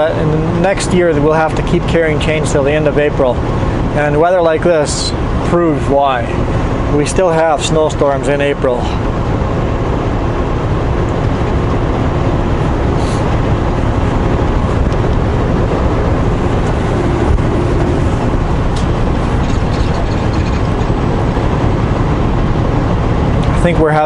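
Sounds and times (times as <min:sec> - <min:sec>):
road rumble: 0:00.0 - 0:24.0
semi truck driving: 0:00.0 - 0:24.0.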